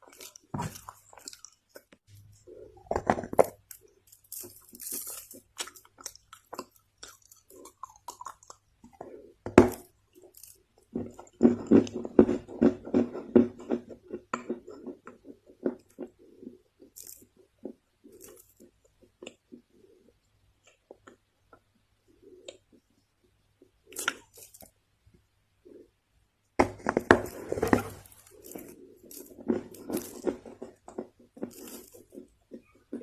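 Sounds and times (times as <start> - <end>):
clay being chewed with crunches: 0.0 - 22.9, 26.8 - 33.0.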